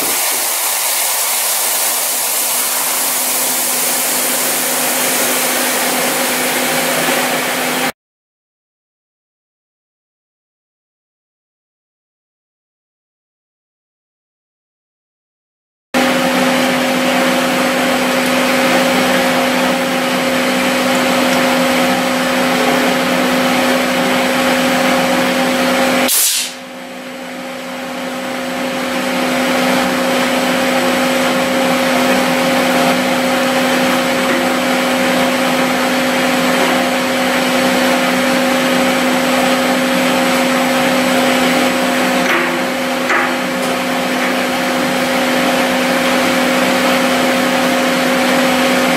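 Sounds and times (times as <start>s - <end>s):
air compressor running: 0.0s - 8.0s, 16.0s - 48.9s.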